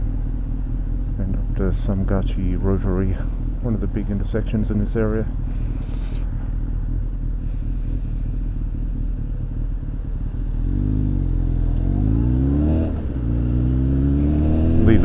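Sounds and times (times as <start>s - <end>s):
engine accelerating: 0.0s - 15.0s.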